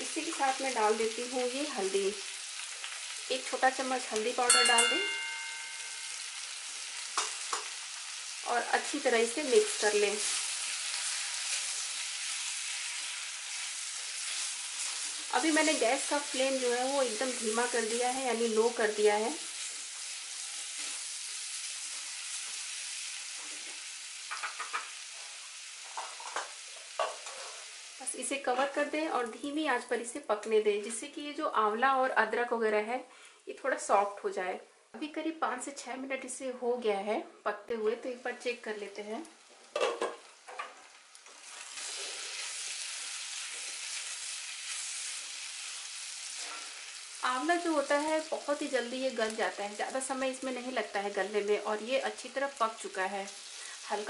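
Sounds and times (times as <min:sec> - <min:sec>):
food sizzling in hot oil: 0:00.0 - 0:29.6, 0:38.4 - 0:54.0.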